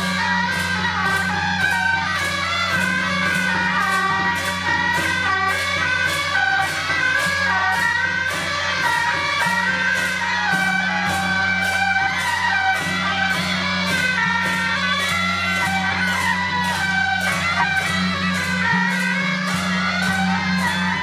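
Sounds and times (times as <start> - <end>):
festive procession music: 0.0 - 21.0
regular percussive strokes: 0.0 - 21.0.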